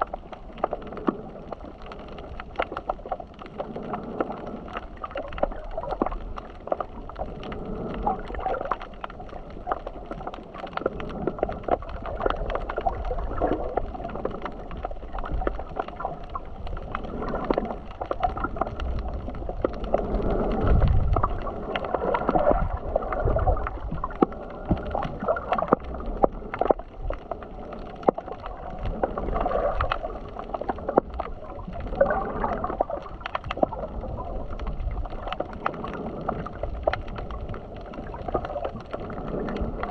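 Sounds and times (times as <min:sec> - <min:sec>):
sea water sloshing: 0:00.0 - 0:39.9.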